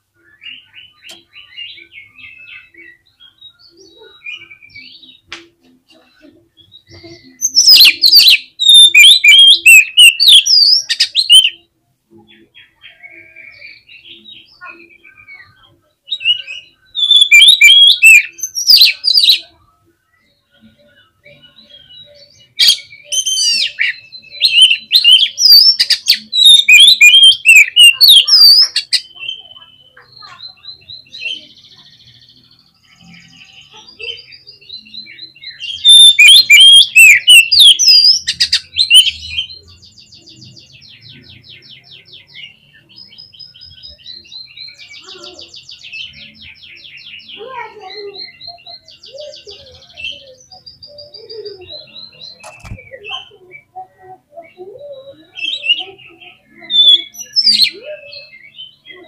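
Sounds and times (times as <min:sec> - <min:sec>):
bird singing whistled notes: 0:00.2 - 0:05.3, 0:06.6 - 0:11.7, 0:12.3 - 0:59.0.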